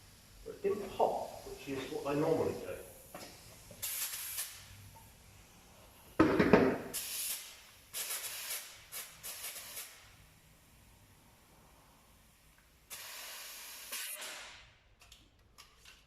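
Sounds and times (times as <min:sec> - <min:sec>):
compressed air hissing: 0:00.0 - 0:06.2, 0:06.8 - 0:14.5.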